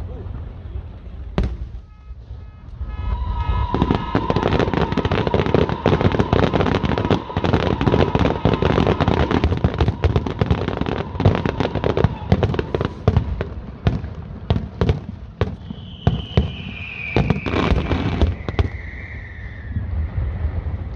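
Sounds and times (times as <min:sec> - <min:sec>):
fireworks crackling: 0:00.0 - 0:20.9.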